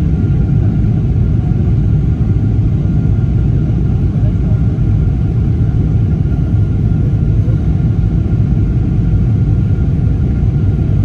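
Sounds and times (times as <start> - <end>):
airliner engines rumbling: 0.0 - 11.0.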